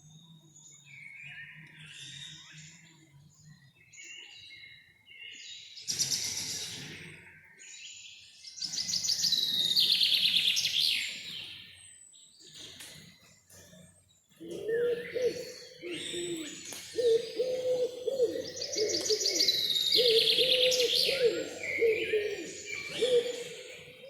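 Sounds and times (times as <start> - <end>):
loud trilled birdsong: 0.0 - 24.0
songbirds singing: 0.0 - 24.0.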